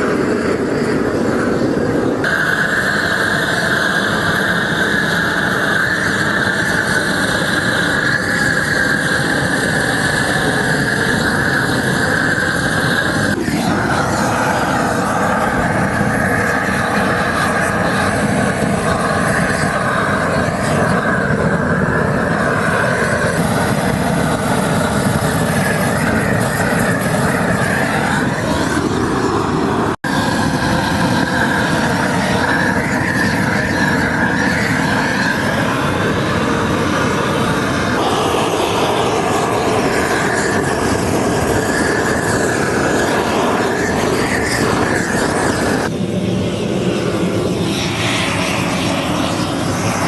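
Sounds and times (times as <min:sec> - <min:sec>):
loud machine engine running: 0:00.0 - 0:50.0.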